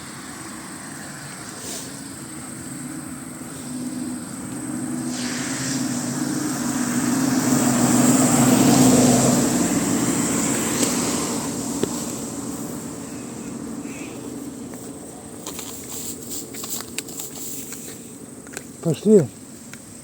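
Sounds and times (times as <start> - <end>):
car passing by: 0.0 - 16.5.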